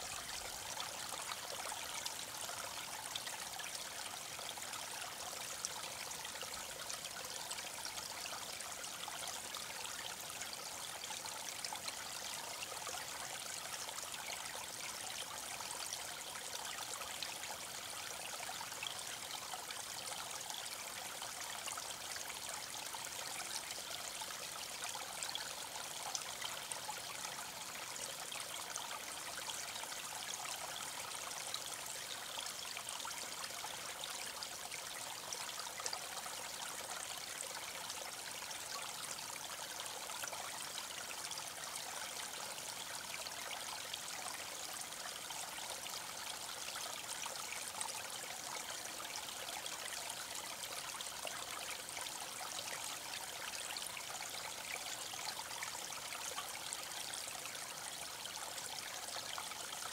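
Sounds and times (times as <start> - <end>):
creek babbling over pebbles: 0.0 - 59.9.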